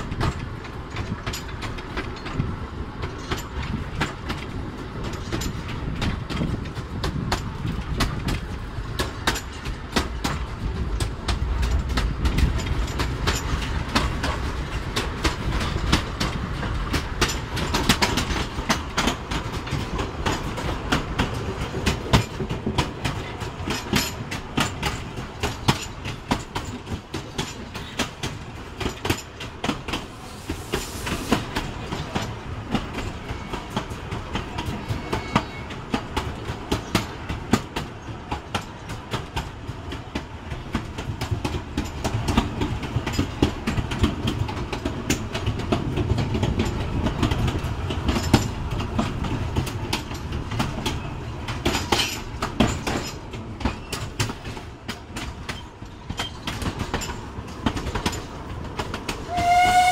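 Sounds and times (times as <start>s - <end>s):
low train rumble: 0.0s - 59.9s
train wheels clattering over rail joints: 0.0s - 59.9s.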